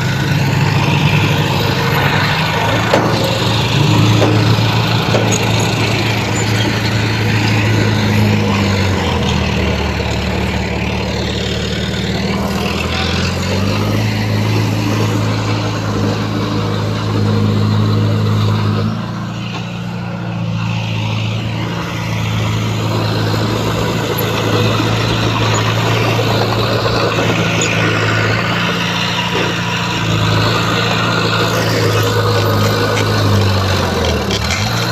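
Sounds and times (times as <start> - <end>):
bulldozer diesel engine under load: 0.0 - 34.9.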